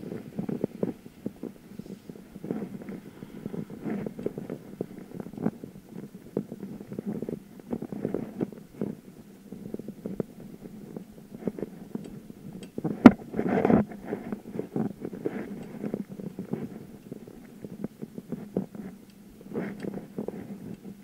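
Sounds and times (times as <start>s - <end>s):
bicycle rattling over pavement: 0.0s - 21.0s.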